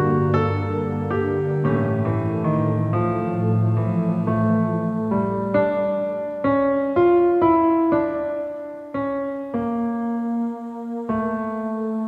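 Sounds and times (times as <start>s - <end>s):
slow calm piano music: 0.0s - 12.0s.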